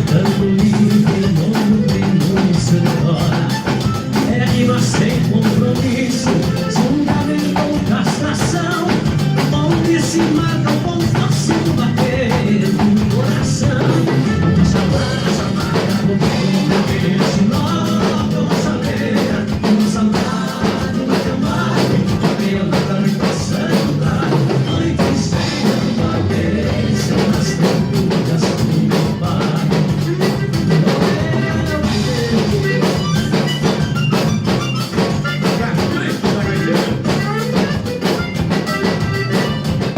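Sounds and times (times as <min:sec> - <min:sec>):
band playing with drum kit: 0:00.0 - 0:39.9.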